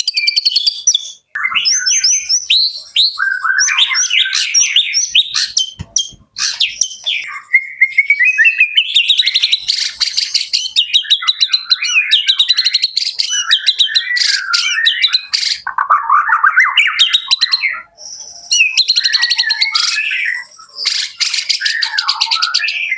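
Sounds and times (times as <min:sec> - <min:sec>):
songbird trills and whistles: 0:00.0 - 0:22.9.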